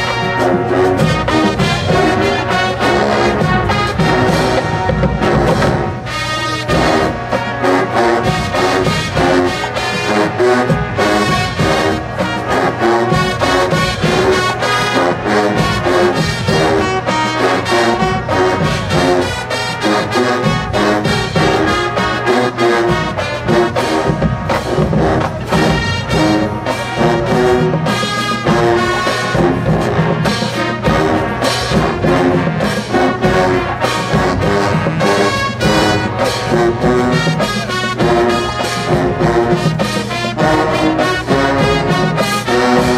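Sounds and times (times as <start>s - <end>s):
brass section playing: 0.0s - 42.9s
drumline beating: 0.0s - 42.9s.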